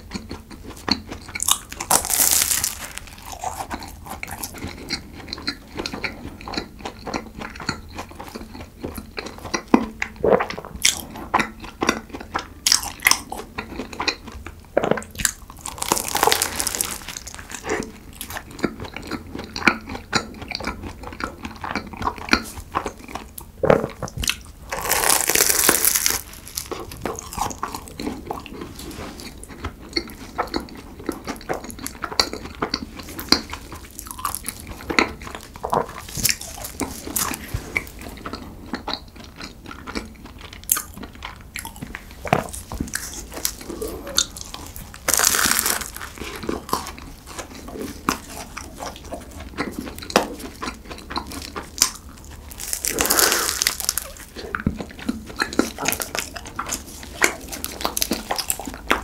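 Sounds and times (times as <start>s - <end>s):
crunching of flaky pastry: 0.0s - 59.0s
wet chewing: 0.0s - 59.0s.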